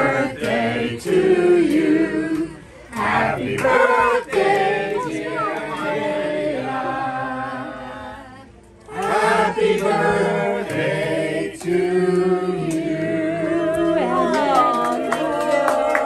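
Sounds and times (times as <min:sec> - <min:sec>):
group singing held notes: 0:00.0 - 0:16.0.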